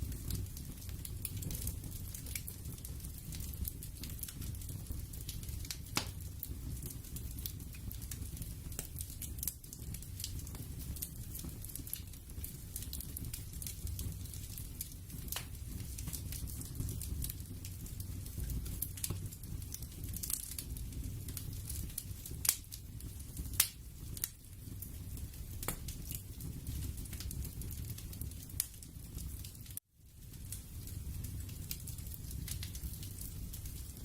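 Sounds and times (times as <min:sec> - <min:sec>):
fire low rumble: 0:00.0 - 0:34.0
fire pops and snaps: 0:00.0 - 0:34.0.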